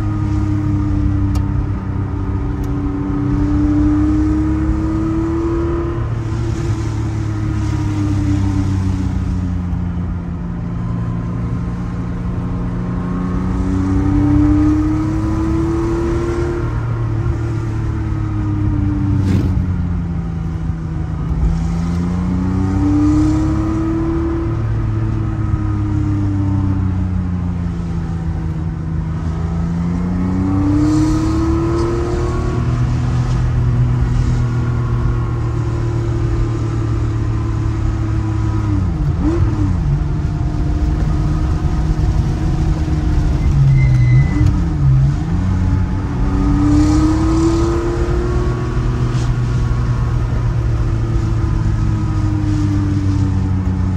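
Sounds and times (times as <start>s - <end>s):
car engine revving from inside cabin: 0.0s - 9.4s, 10.6s - 26.3s, 28.2s - 53.9s.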